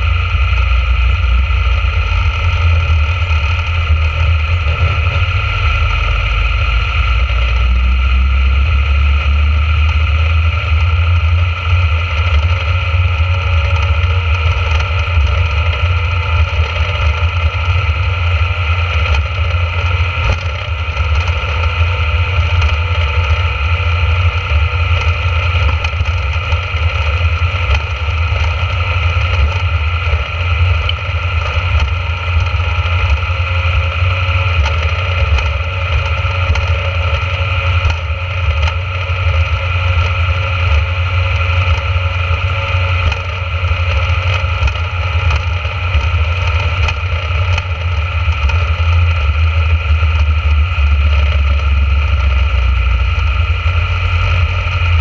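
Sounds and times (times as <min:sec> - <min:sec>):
dragster engine running: 0:00.0 - 0:55.0.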